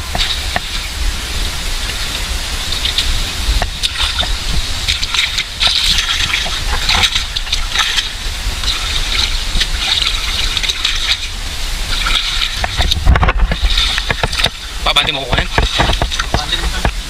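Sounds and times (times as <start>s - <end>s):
water gushing and splashing: 0.0s - 17.0s.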